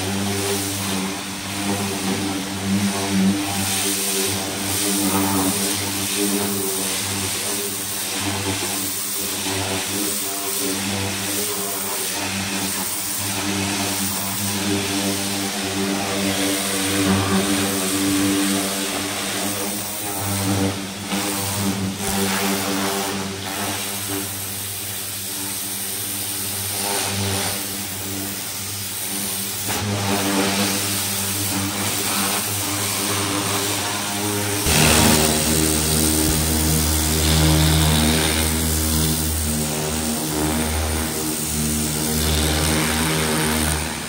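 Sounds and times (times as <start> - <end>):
pressure washer engine humming: 0.0 - 44.0
water jet hissing: 0.0 - 44.0.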